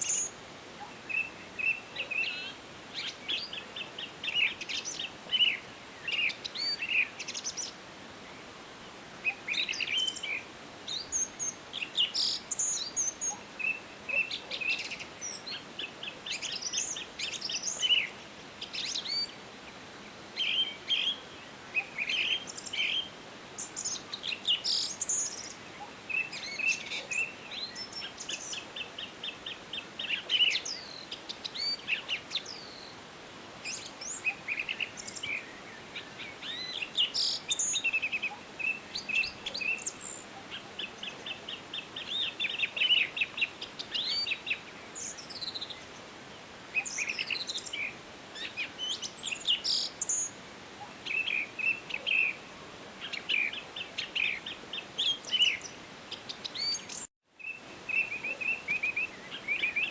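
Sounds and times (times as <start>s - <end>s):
faint steady hiss: 0.0s - 59.9s
songbirds trilling and chirping: 0.0s - 59.9s.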